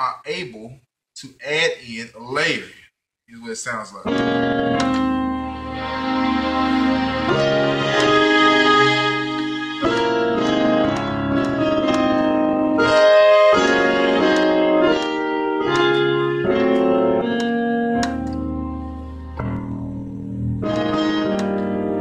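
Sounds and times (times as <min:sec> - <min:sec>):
piano chords: 0:04.1 - 0:22.0
sustained strings: 0:04.1 - 0:22.0.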